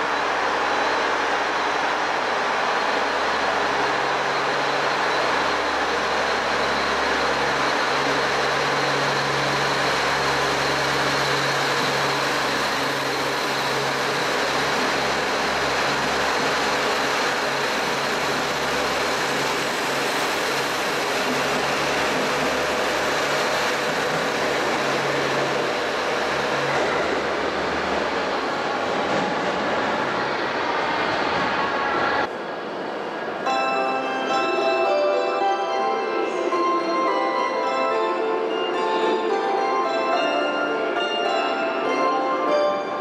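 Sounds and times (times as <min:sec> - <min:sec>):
train rumbling and rolling: 0:00.0 - 0:43.0.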